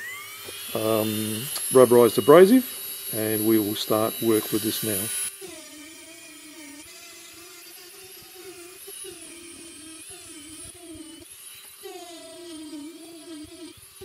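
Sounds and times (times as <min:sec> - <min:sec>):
rotary tool grinding stone: 0:00.0 - 0:14.0.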